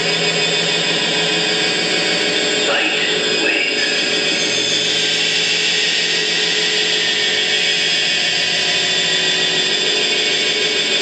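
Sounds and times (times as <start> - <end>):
electronic noise drone: 0.0 - 11.0.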